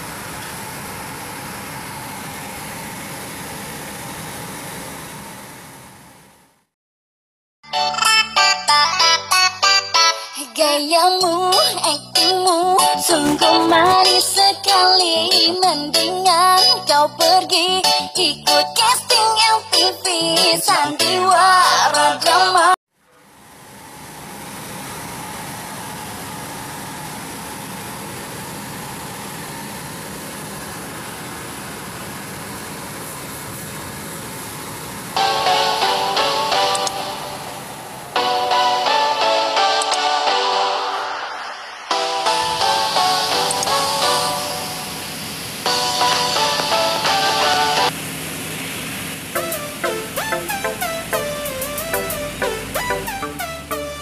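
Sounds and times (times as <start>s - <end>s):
steady machine noise with hum: 0.0s - 6.7s, 10.4s - 54.0s.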